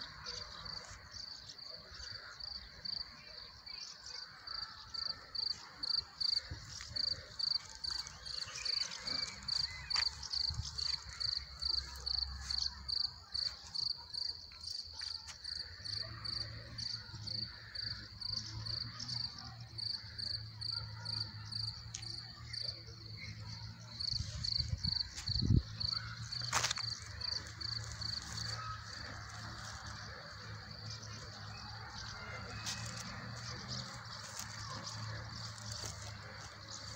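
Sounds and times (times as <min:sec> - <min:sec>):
cricket chirping: 0:04.2 - 0:36.9.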